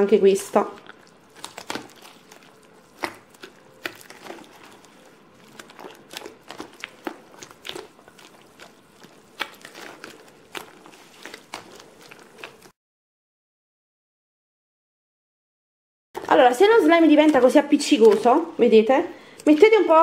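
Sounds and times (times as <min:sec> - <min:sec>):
slime squelching by hand: 0:00.0 - 0:12.8, 0:16.2 - 0:20.0.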